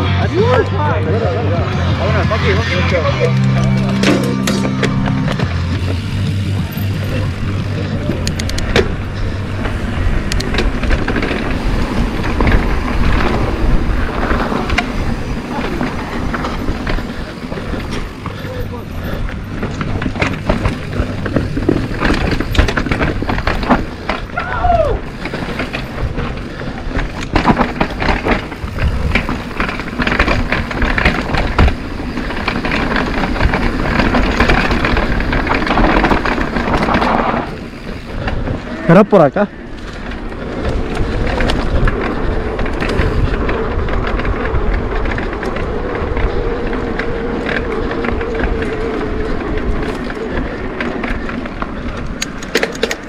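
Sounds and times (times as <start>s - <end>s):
bike clicks and rattles: 0.0s - 53.0s
wind and tyre noise: 0.0s - 53.0s.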